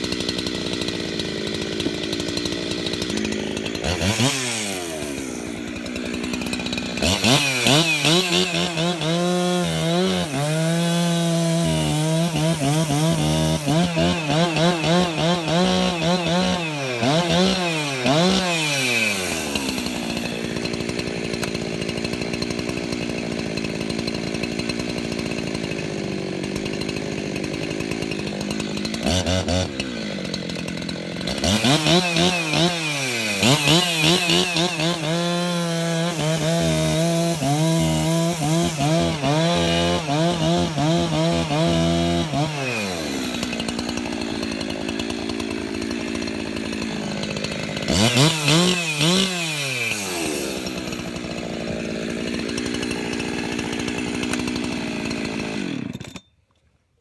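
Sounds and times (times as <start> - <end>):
chainsaw idling and revving: 0.0 - 56.4.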